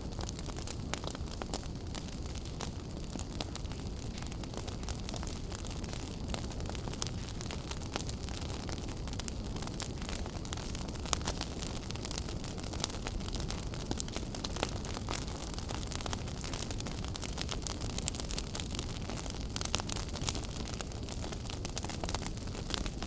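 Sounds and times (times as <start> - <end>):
fire crackling and popping: 0.0 - 23.0
fire flames rumbling: 0.0 - 23.0.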